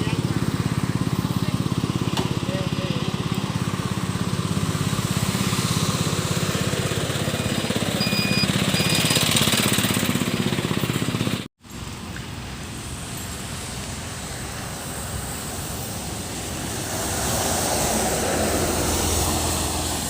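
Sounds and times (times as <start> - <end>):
engine running with fast pulse: 0.0 - 20.0.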